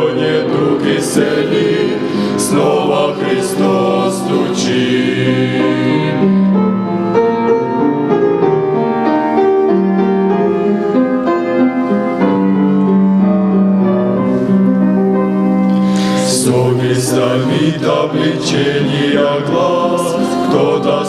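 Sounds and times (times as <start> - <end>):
piano hymn interlude: 0.0 - 21.0.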